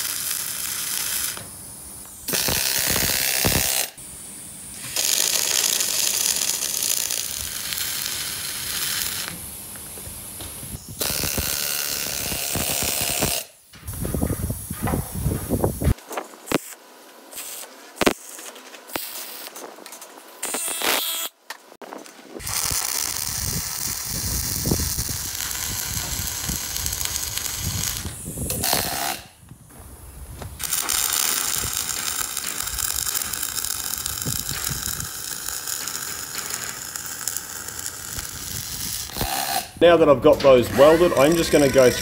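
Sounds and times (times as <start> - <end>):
welding clicks: 0.0 - 4.0, 4.8 - 9.8, 10.4 - 14.2, 17.4 - 29.2, 30.6 - 42.0
welding arc crackling: 0.0 - 4.1, 4.8 - 29.4, 30.0 - 39.9, 40.5 - 42.0.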